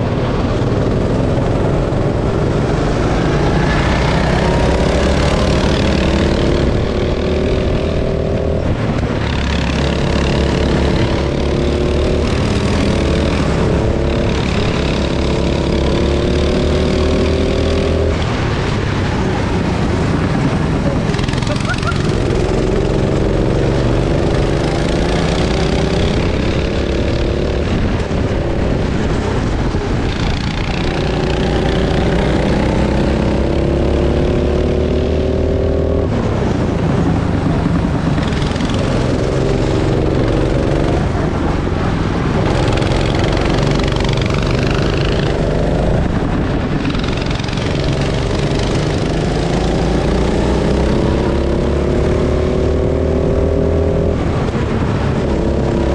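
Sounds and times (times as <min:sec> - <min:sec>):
go-kart engine revving: 0:00.0 - 0:55.9.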